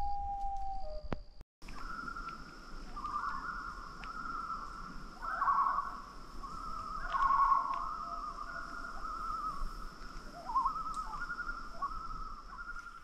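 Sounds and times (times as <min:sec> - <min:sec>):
loons calling: 0:01.7 - 0:13.0.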